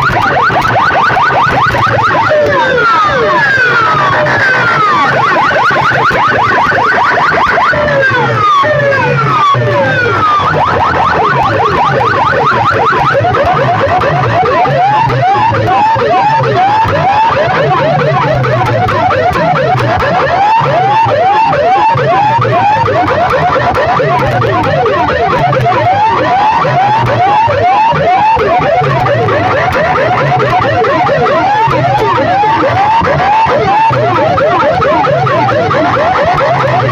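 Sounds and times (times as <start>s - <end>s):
electronic siren-like effects: 0.0s - 36.9s
pulsing bass line: 0.0s - 36.9s.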